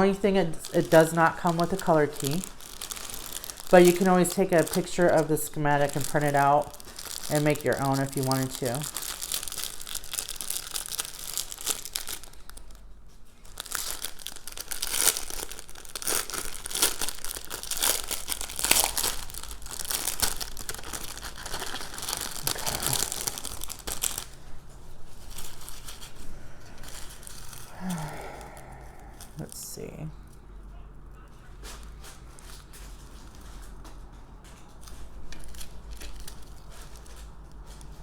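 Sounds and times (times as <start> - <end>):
plastic bags crinkling: 0.0 - 29.9, 31.5 - 38.0.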